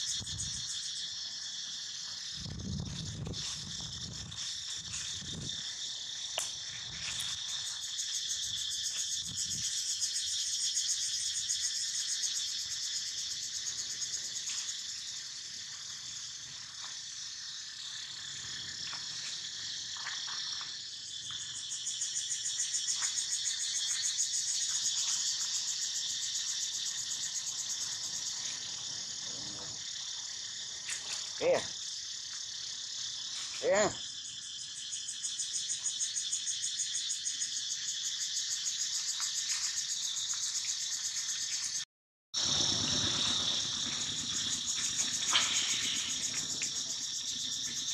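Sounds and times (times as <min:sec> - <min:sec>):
insects buzzing: 0:00.0 - 0:41.8, 0:42.4 - 0:47.9.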